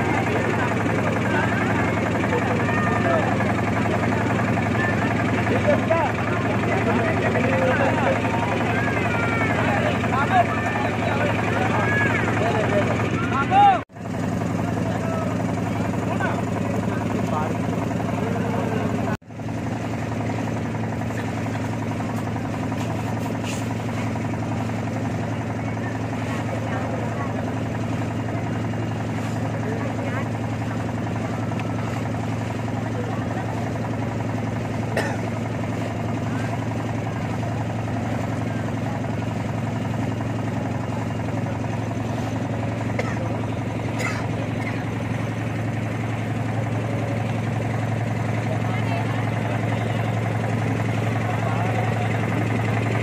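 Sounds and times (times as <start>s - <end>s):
motor boat engine droning: 0.0s - 53.0s.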